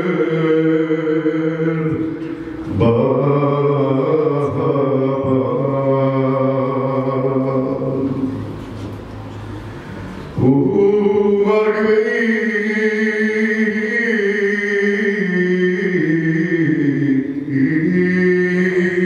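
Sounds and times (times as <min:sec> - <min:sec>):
man singing long note: 0:00.0 - 0:08.4, 0:10.4 - 0:19.0.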